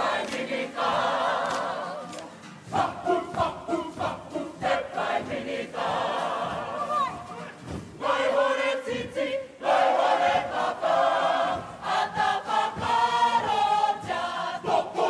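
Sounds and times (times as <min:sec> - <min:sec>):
group singing in unison: 0:00.0 - 0:15.0.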